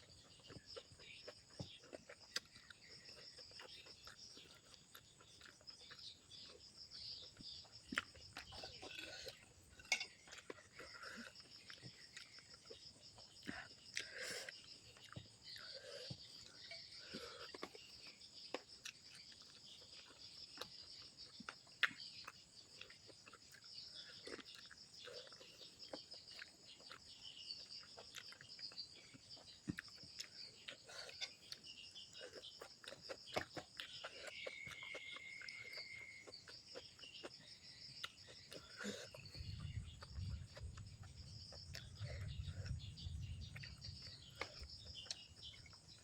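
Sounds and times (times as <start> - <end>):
insects chirring: 0.0 - 46.0
person chewing: 0.0 - 46.0.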